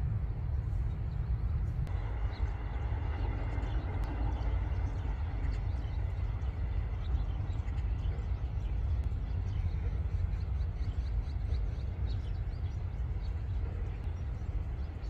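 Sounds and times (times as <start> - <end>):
low outdoor rumble: 0.0 - 15.0
sparrows chirping: 1.9 - 15.0.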